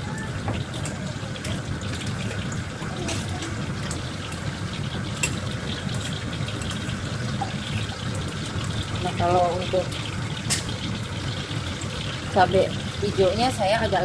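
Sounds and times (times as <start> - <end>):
water boiling in a saucepan: 0.0 - 14.0.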